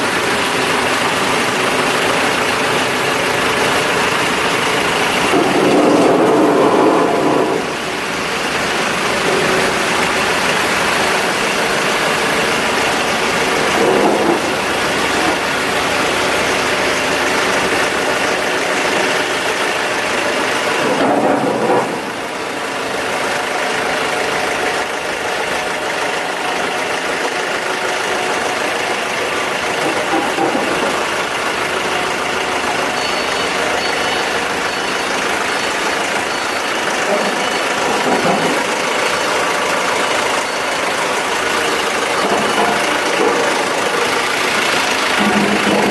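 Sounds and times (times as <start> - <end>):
diesel generator engine running: 0.0 - 45.9.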